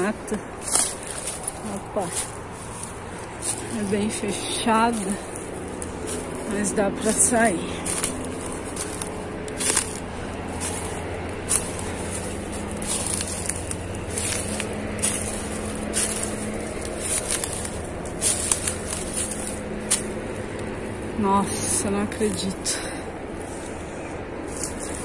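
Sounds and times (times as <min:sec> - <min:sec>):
twigs snapping underfoot: 0:00.0 - 0:21.1, 0:23.4 - 0:25.0
footsteps crunching through leaves: 0:00.0 - 0:25.0
steady low hum: 0:00.0 - 0:25.0.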